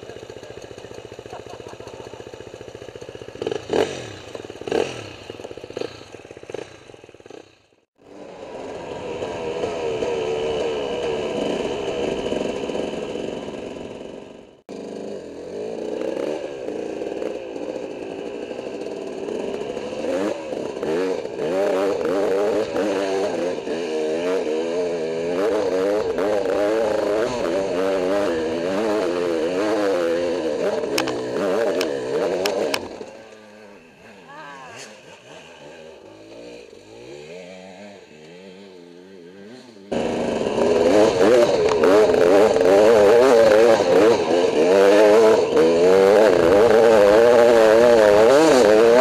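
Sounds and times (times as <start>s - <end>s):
dirt bike engine: 0.0s - 49.0s.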